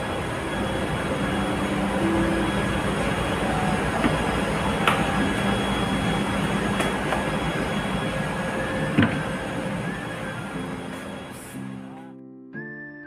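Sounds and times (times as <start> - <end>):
ship machinery drone: 0.0 - 12.1.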